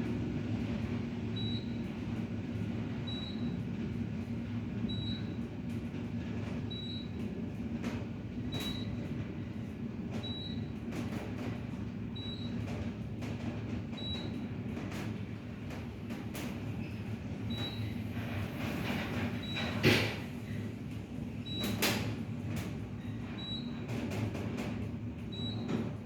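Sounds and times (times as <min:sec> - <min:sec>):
elevator hum and rumble: 0:00.0 - 0:26.0.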